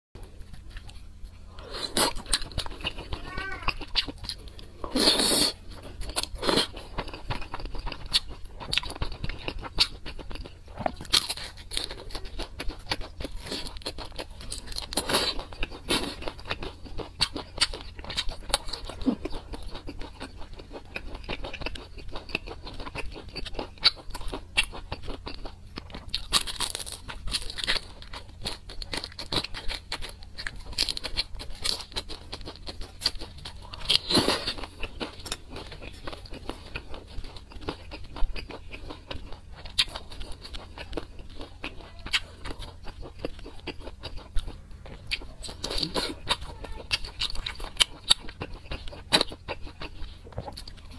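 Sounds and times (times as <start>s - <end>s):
biting and chewing food: 0.2s - 50.9s.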